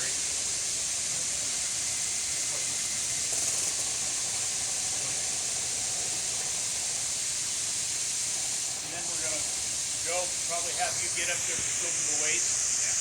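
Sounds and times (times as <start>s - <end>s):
equipment steady high hiss: 0.0s - 13.0s.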